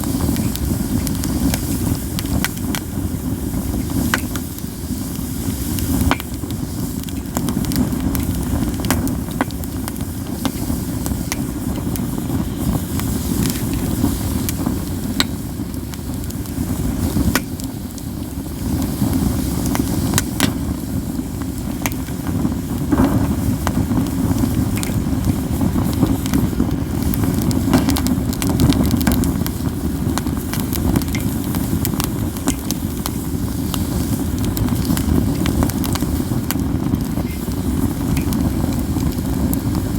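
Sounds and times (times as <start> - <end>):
firewood crackling and popping: 0.0 - 39.9
low rushing of flames: 0.0 - 39.9.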